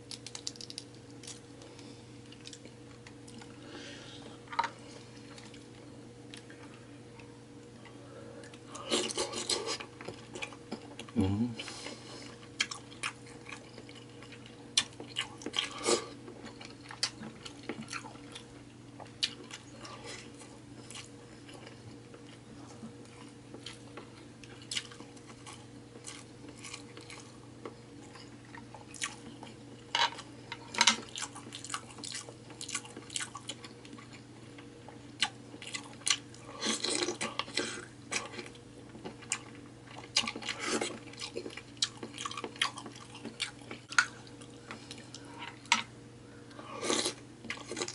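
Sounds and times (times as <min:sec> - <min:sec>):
wet chewing and crunching: 0:00.0 - 0:03.6, 0:04.5 - 0:06.5, 0:12.2 - 0:45.9, 0:46.8 - 0:47.9
faint steady hum: 0:00.0 - 0:47.9.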